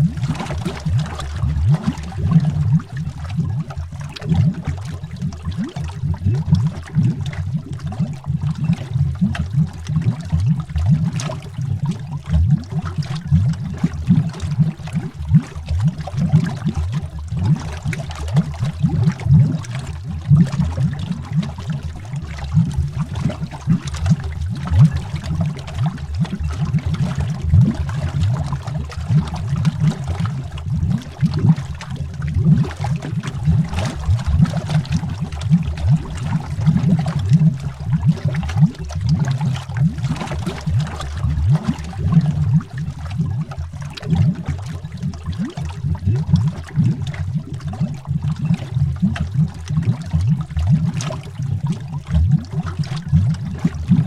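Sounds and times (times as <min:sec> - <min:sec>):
underwater bubbling: 0:00.0 - 0:54.0.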